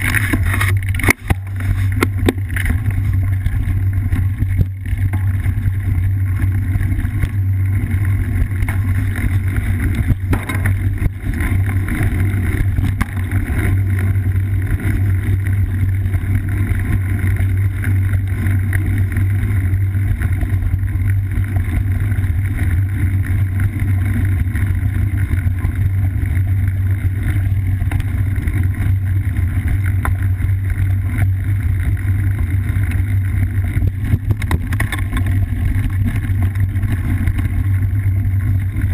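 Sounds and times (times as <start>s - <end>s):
bike knocks and rattles: 0.0s - 38.9s
tyre and frame vibration: 0.0s - 38.9s.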